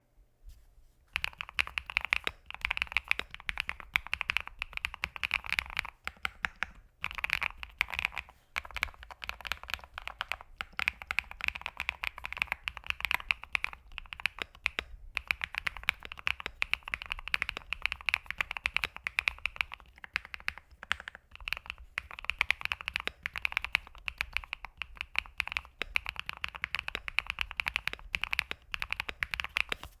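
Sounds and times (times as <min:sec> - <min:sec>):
mechanical keyboard typing: 0:01.1 - 0:29.9.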